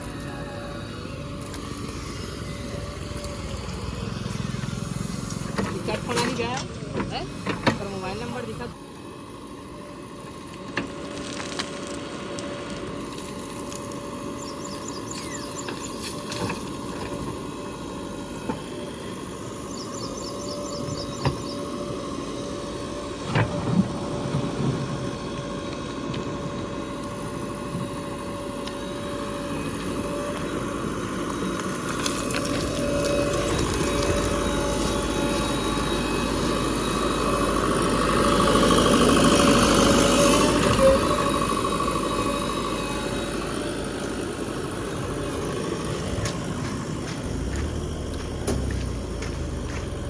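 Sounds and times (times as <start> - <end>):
heavy machinery engine running: 0.0 - 50.0.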